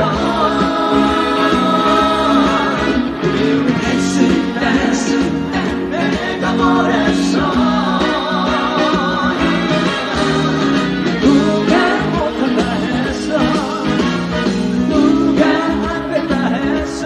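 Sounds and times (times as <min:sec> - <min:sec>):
band playing trot music: 0:00.0 - 0:17.0.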